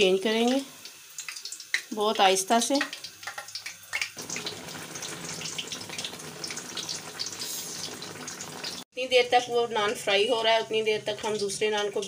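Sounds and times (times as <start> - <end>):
bread frying in sizzling oil: 0.0 - 12.0.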